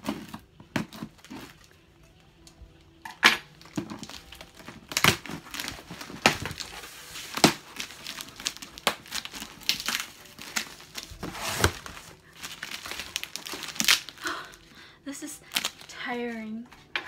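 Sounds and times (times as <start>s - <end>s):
cardboard packaging rustling: 0.0s - 2.0s, 3.4s - 14.8s, 15.4s - 16.9s.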